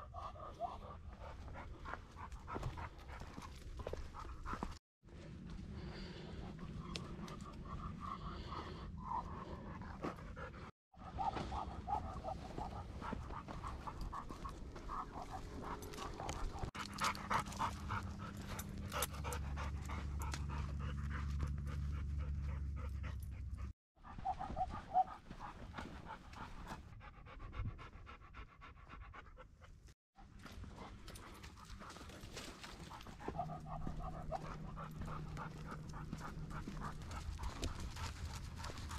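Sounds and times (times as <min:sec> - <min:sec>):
dog panting: 0:00.0 - 0:04.8, 0:05.8 - 0:38.9.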